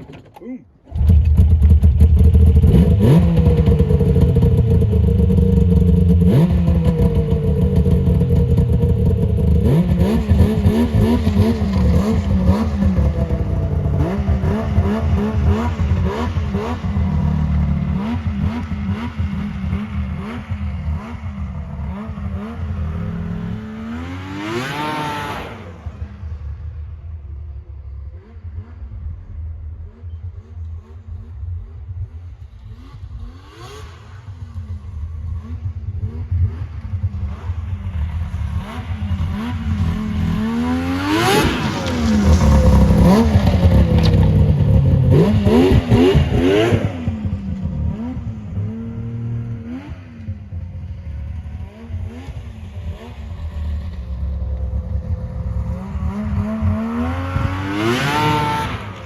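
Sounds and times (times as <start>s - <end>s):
snowmobile engine revving: 0.9s - 26.4s, 28.1s - 59.0s.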